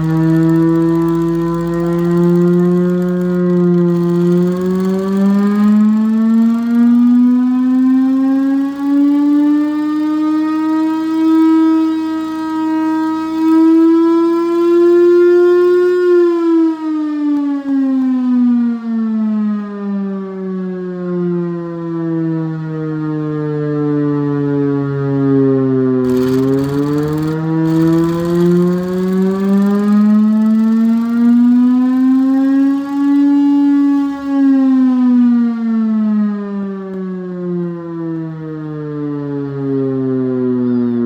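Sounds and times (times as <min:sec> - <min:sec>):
air raid siren wailing: 0:00.0 - 0:41.0.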